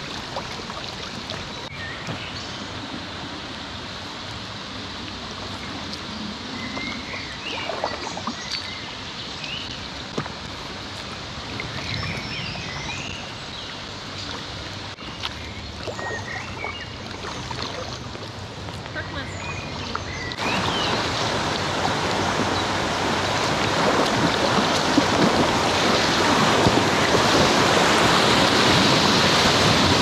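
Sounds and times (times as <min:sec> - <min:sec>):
paddle strokes splashing: 0:00.0 - 0:02.3, 0:04.8 - 0:30.0
flowing river water: 0:00.0 - 0:30.0.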